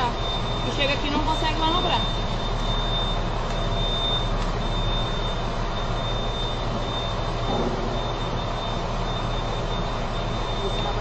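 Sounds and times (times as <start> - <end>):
high whine: 0.0 - 11.0
truck idling: 0.0 - 11.0.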